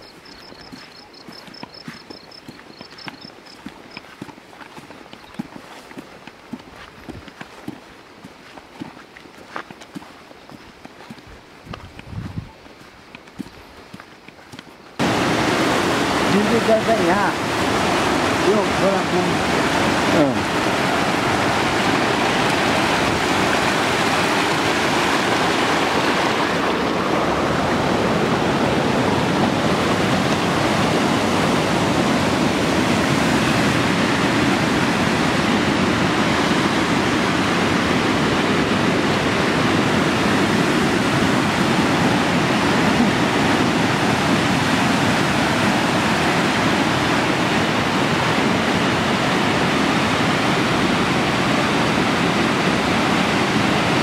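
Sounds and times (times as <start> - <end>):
mountain stream rushing over stones: 0.0 - 54.0.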